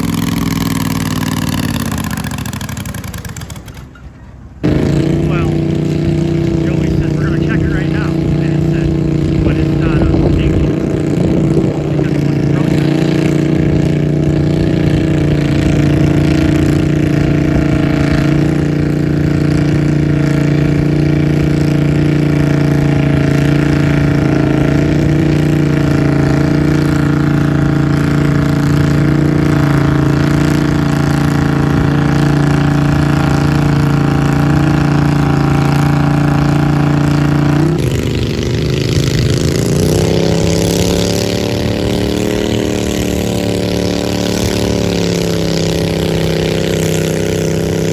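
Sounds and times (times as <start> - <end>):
garden tractor engine running: 0.0 - 47.9.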